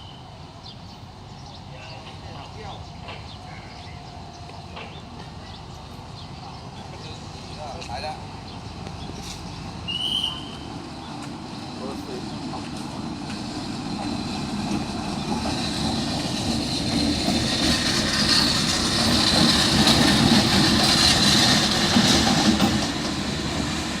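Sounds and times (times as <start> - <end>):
locomotive engine and wheels: 0.0 - 24.0.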